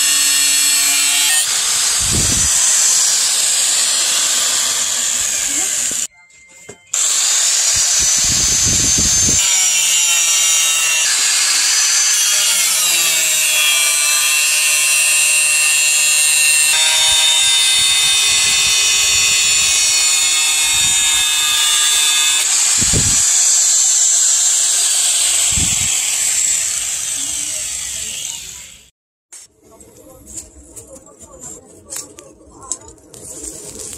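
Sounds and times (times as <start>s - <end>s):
angle grinder grinding steel: 0.0s - 6.1s, 6.9s - 28.9s.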